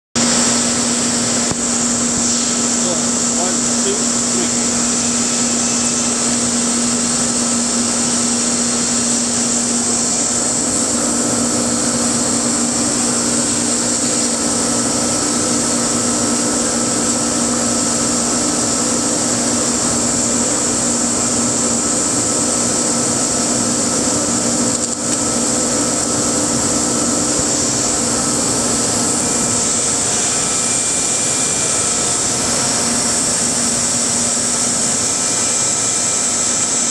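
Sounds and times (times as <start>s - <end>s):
cnc router milling: 0.2s - 36.9s.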